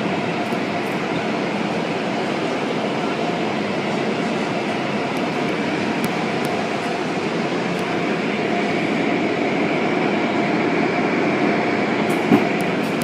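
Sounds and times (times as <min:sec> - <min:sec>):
car wash machinery drone: 0:00.0 - 0:13.0.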